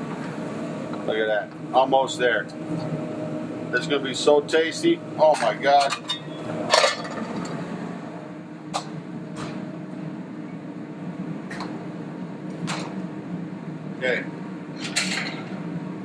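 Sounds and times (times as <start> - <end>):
ventilation fan humming: 0.0 - 16.0.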